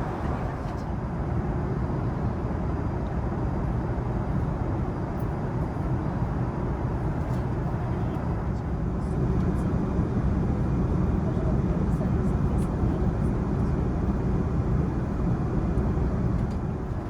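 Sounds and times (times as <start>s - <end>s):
airplane cabin roar: 0.0s - 17.0s.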